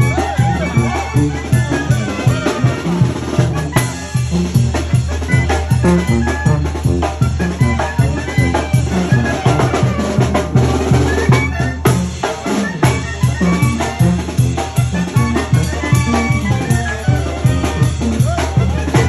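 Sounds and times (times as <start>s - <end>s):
upbeat latin-style music: 0.0s - 19.0s.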